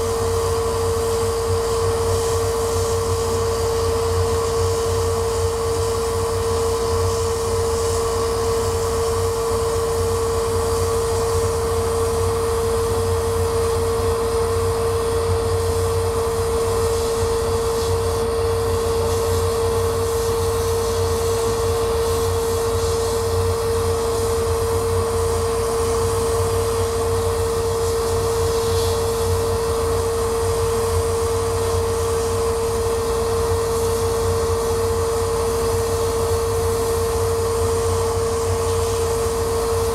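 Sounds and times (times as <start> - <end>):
laser cutter humming: 0.0 - 39.9.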